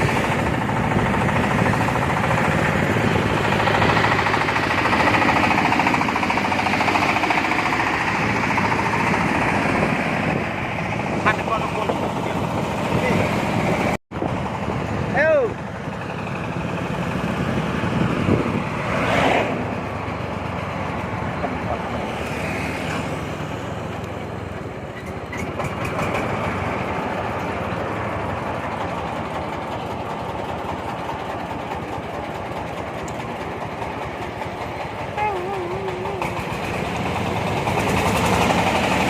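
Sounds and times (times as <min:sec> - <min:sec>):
corn sheller engine running: 0:00.0 - 0:39.0.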